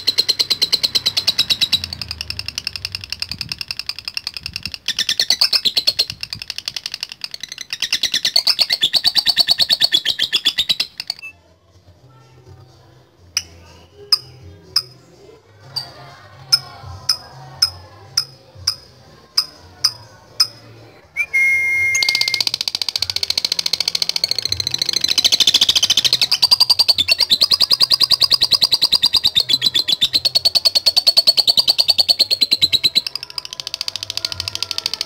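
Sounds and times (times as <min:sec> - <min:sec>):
lovebird chirping and trilling: 0:00.0 - 0:11.4, 0:15.7 - 0:35.0.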